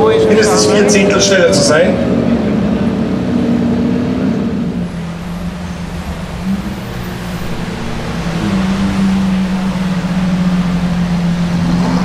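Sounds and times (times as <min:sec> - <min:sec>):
car engine running low speed: 0:00.0 - 0:12.0.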